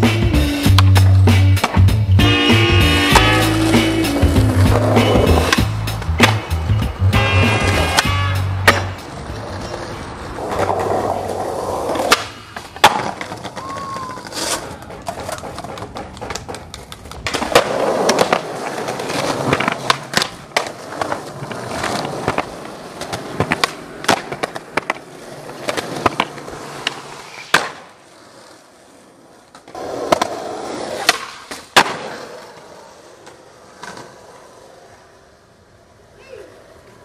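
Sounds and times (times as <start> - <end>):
skateboard wheels rolling on pavement: 0.0 - 37.0
loud skateboard crack: 0.1 - 37.0
skateboard clacking on ground: 0.1 - 37.0.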